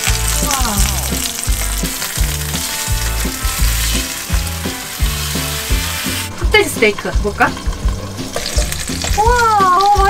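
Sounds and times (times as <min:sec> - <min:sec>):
background music with bass line: 0:00.0 - 0:10.0
meat sizzling in oil: 0:00.0 - 0:10.0.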